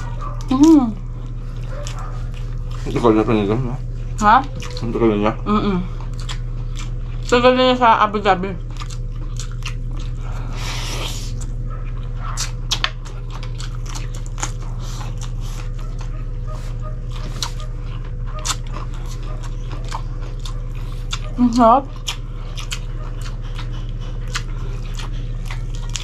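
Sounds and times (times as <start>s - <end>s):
low hum: 0.0s - 26.0s
people chewing food: 0.0s - 26.0s.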